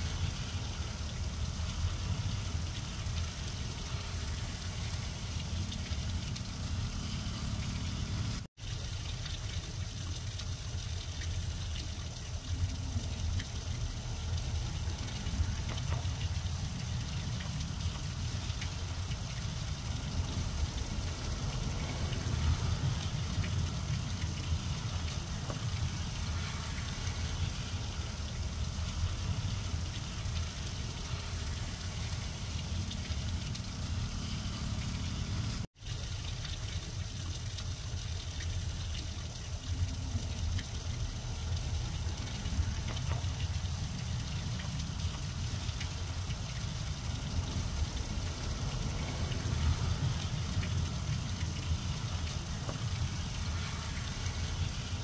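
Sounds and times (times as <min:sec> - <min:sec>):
rain falling on grass: 0:00.0 - 0:55.0.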